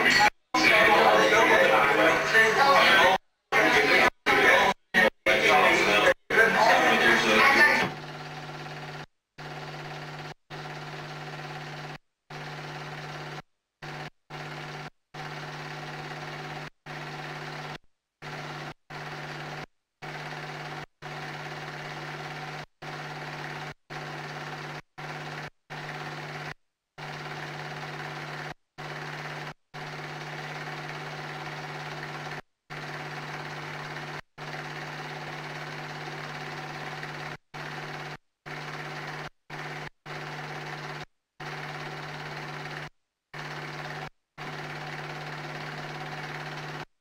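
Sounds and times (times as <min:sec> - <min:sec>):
film projector running: 0:00.0 - 0:47.0.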